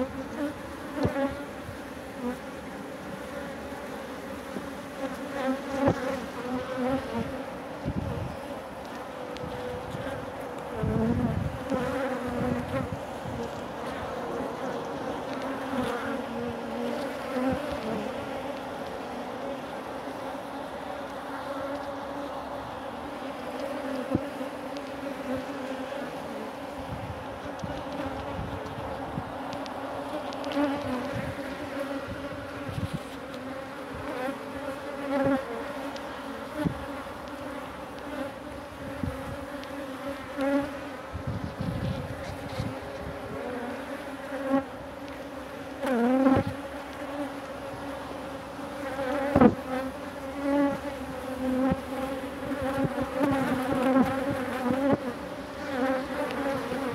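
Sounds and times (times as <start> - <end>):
bee flying close past: 0.0 - 56.9
honey bees buzzing: 0.0 - 56.9.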